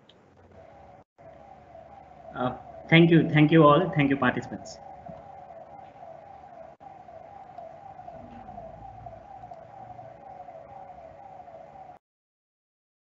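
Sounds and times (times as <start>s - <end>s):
electronic siren wail: 0.2s - 12.0s
steady electronic tone: 0.5s - 12.0s.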